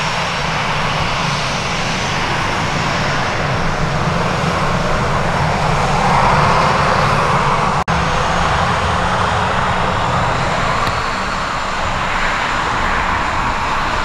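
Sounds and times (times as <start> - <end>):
jet engines hissing and rumbling: 0.0 - 14.0.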